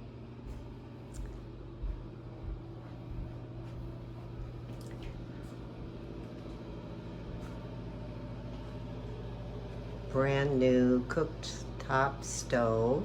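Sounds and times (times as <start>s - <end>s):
low room tone hum: 0.0s - 13.0s.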